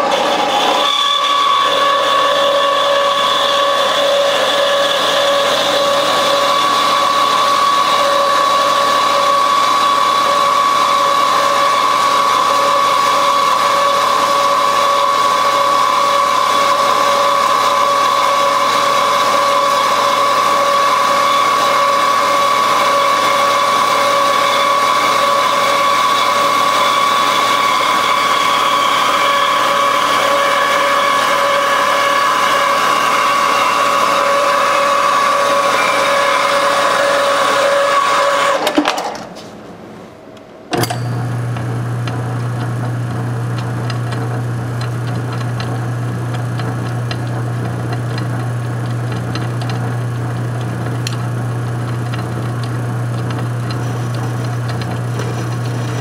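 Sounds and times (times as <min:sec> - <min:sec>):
band saw cutting metal: 0:00.0 - 0:39.1, 0:40.7 - 0:56.0.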